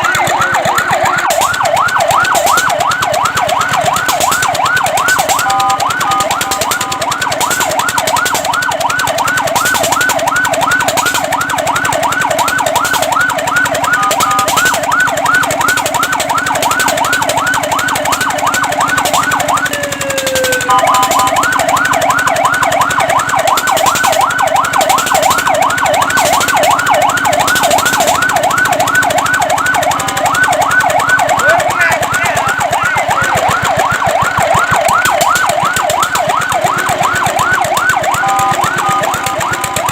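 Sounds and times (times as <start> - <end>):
fire truck siren yelping: 0.0 - 39.9.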